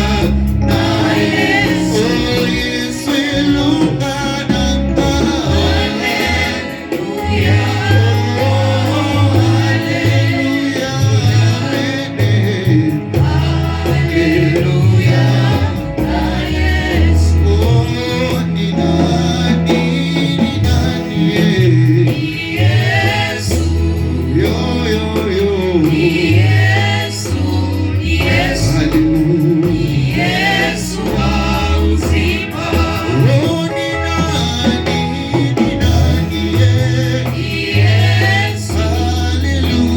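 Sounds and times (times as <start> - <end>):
bass line: 0.0 - 39.9
gospel singing with instruments: 0.0 - 39.9.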